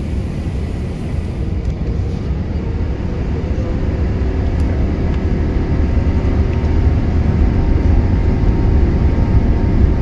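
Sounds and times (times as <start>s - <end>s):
jet engines rumbling in cabin: 0.0s - 10.0s.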